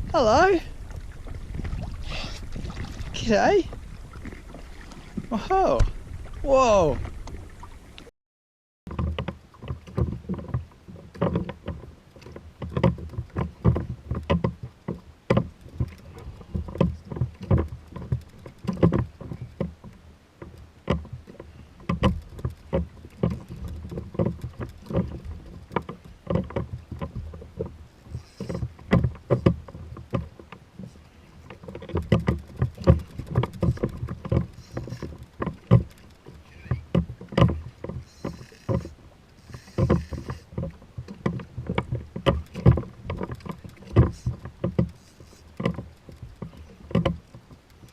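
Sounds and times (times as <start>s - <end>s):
water slapping against kayak hull: 0.0s - 8.1s, 8.9s - 47.9s.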